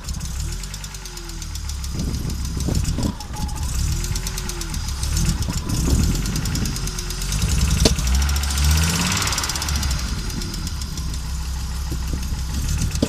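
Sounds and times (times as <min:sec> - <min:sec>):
car engine running roughly: 0:00.0 - 0:13.0.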